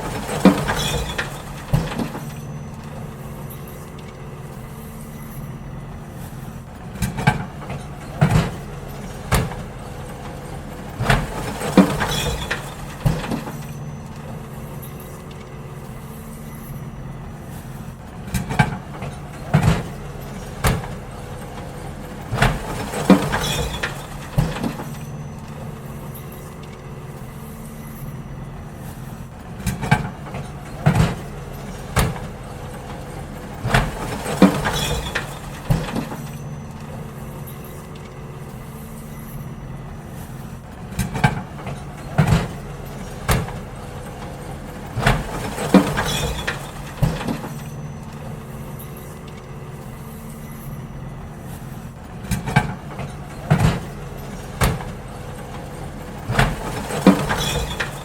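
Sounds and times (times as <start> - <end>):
bins knocking and banging: 0.0 - 4.0, 6.9 - 15.5, 17.7 - 26.8, 29.5 - 38.1, 40.2 - 50.1, 51.2 - 58.0
garbage truck engine running: 0.0 - 58.0.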